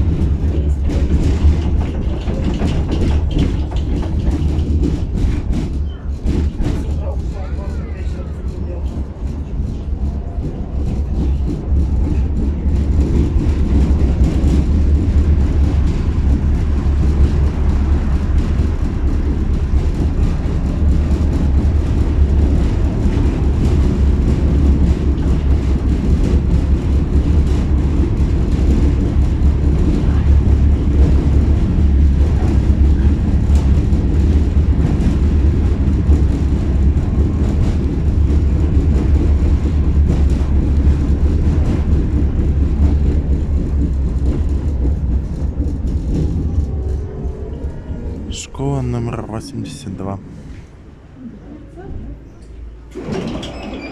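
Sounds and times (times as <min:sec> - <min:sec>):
tram wheels rumbling on rails: 0:00.0 - 0:53.9.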